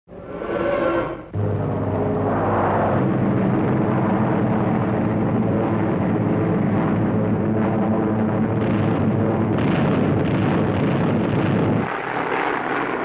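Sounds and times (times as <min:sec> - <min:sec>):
propeller aircraft engines droning: 0:01.3 - 0:11.0, 0:11.7 - 0:13.0.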